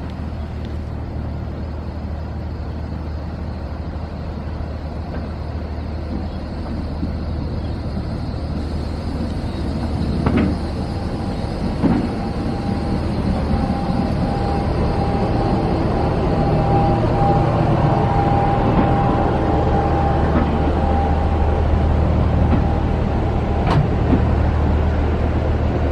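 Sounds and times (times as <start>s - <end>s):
steady whine: 0.0s - 25.9s
train low drone: 0.0s - 25.9s.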